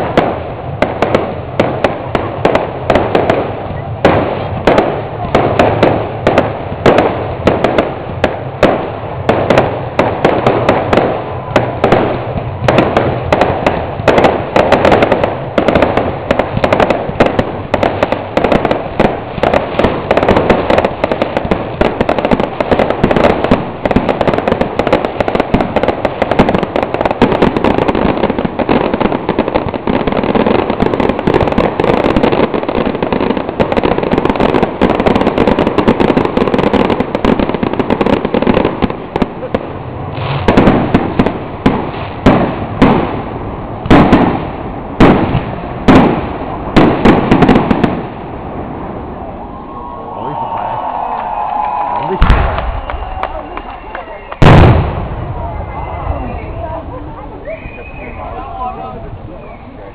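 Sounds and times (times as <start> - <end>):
firework bangs: 0.0 - 59.9
firework crackling: 0.0 - 59.9.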